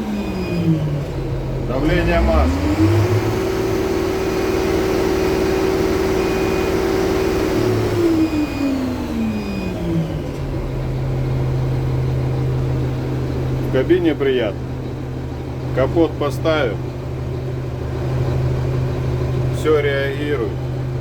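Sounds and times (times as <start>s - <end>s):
diesel tractor engine revving: 0.0s - 21.0s.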